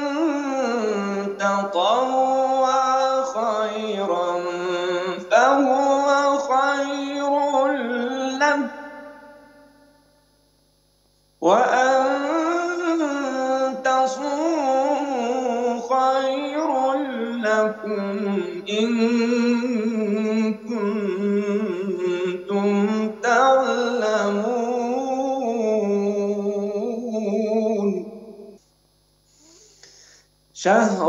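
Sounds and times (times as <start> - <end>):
man chanting melodically: 0.0 - 9.7, 11.4 - 28.6, 30.6 - 31.0.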